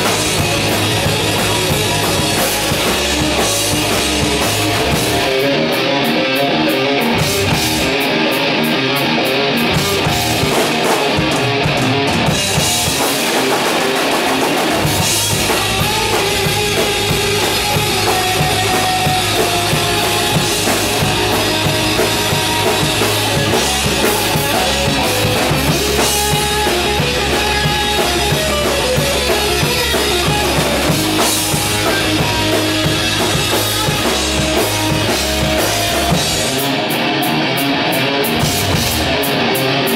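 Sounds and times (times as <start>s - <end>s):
distorted electric guitars: 0.0s - 39.9s
drum kit: 0.0s - 39.9s
electric bass: 0.0s - 39.9s.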